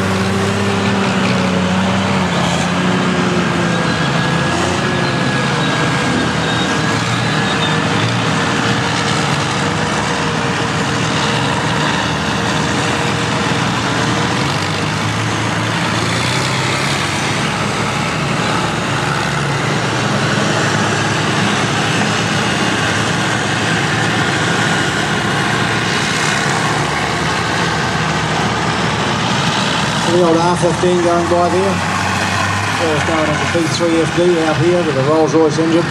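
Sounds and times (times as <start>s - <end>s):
diesel truck engine running: 0.0s - 35.9s.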